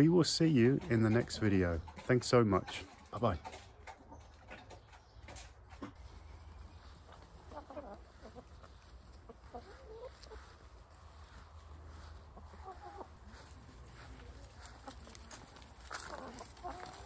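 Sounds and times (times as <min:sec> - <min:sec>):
hens clucking: 0:00.4 - 0:17.0.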